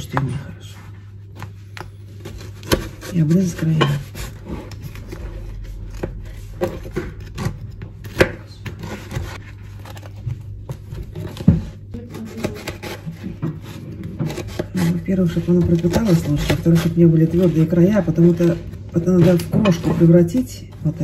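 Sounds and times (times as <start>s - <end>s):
knife scraping cake on board: 1.4s - 10.1s, 11.1s - 20.6s.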